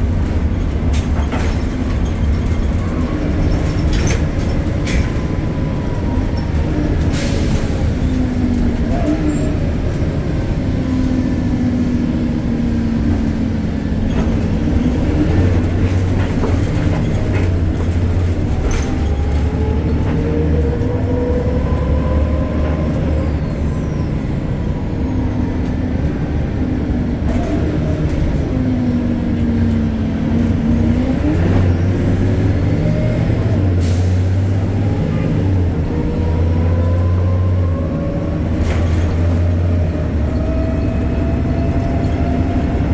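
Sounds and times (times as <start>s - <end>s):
bus engine and drivetrain whine: 0.0s - 42.9s.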